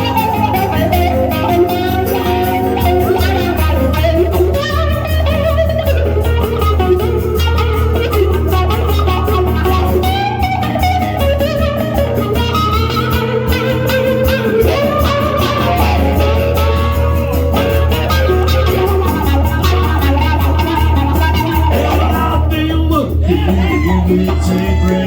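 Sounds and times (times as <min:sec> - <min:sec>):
country band playing: 0:00.0 - 0:25.0
lead guitar melody: 0:00.0 - 0:25.0.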